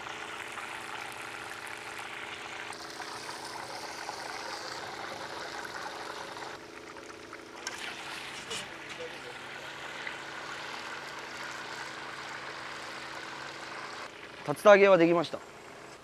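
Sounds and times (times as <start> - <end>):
chicken deep-frying in oil: 0.0 - 15.9.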